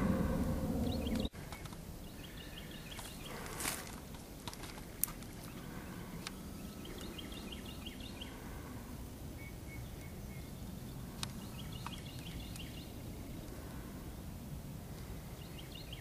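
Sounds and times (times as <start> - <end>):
birds chirping: 0.0 - 16.0
low background rumble: 0.0 - 16.0.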